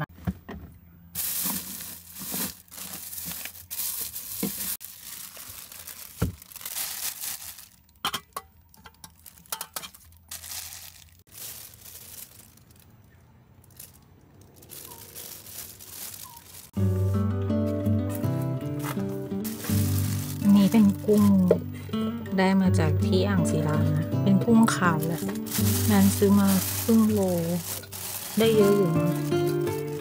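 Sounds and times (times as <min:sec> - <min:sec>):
plastic bag crinkling: 0:01.2 - 0:16.8, 0:18.2 - 0:21.6, 0:23.5 - 0:30.0.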